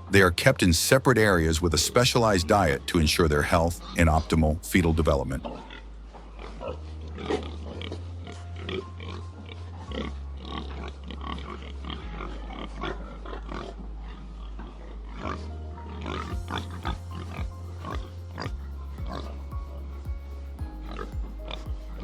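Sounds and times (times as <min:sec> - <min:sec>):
pigs grunting: 0:00.0 - 0:20.1, 0:20.8 - 0:22.0
background music with low bass: 0:00.0 - 0:22.0.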